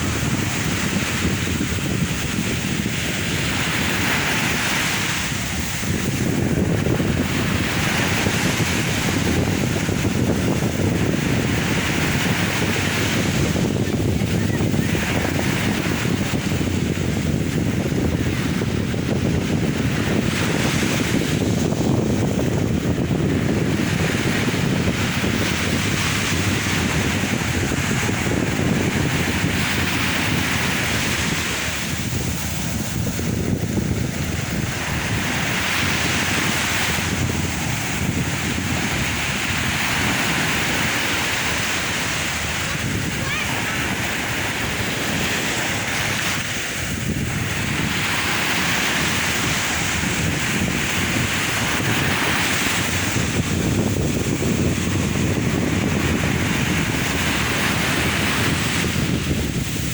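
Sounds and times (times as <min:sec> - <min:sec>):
sea waves breaking ashore: 0:00.0 - 0:59.9
wind buffeting microphone: 0:00.0 - 0:59.9.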